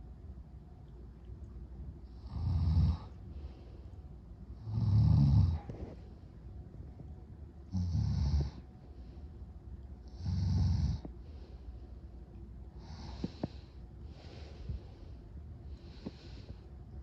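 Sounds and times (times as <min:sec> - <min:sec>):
quiet breathing: 0:01.3 - 0:17.0.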